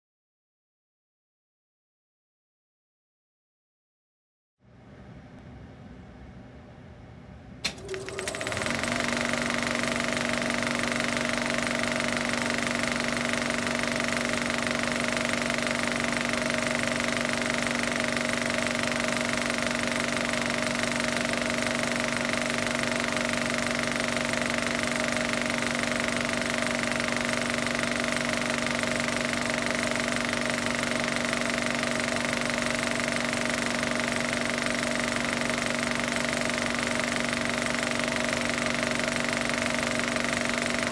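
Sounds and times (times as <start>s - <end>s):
machine drone: 7.6s - 40.9s.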